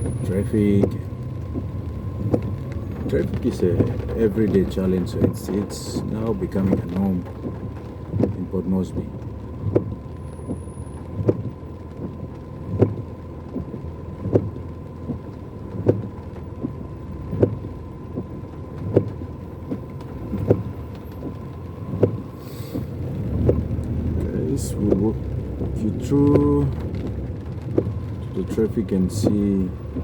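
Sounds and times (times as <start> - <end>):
car cabin hum: 0.0 - 30.0
heavy rain: 0.0 - 30.0
windscreen wipers knocking: 0.0 - 30.0.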